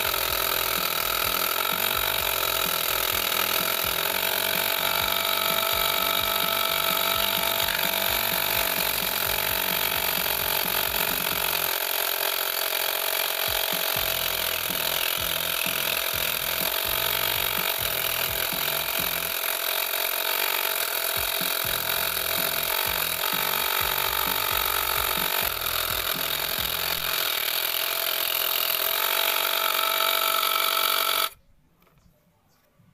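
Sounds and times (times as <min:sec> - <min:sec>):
scroll saw whine cutting plywood: 0:00.0 - 0:31.4.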